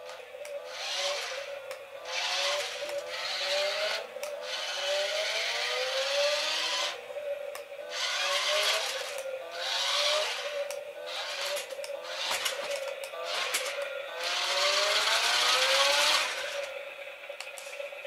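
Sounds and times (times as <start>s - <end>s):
toy car electric motors whining: 0.0s - 7.0s, 7.9s - 16.9s.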